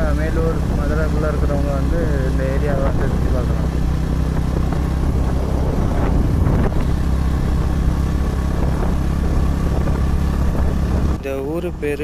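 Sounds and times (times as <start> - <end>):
motorcycle engine running: 0.0 - 12.0
road and air noise: 0.0 - 12.0.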